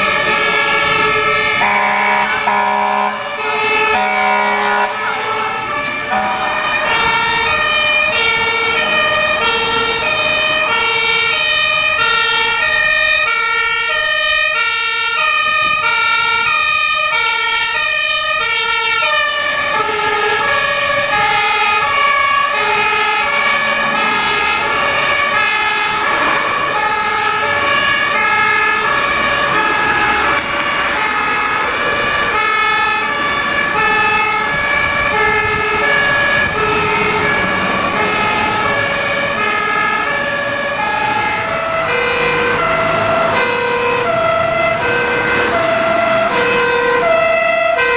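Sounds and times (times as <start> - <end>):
two-tone fire engine siren: 0.0 - 47.9.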